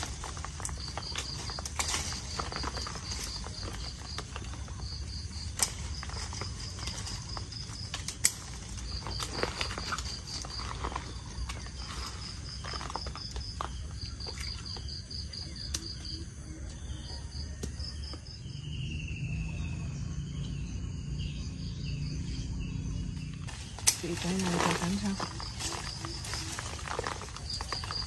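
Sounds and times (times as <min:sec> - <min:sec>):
insect chirping: 0:00.0 - 0:28.0.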